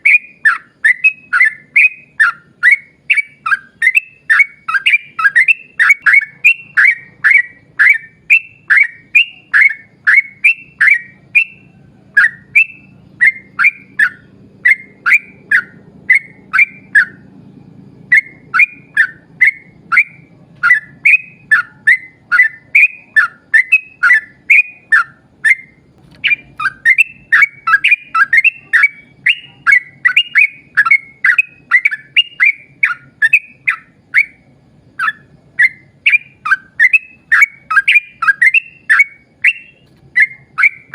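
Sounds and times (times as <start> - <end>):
bulbul singing rapid phrases: 0.0 - 40.9.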